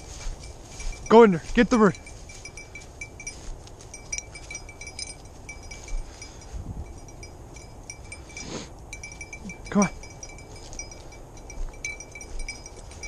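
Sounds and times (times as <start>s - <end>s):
collar bell jingling: 0.0s - 13.0s.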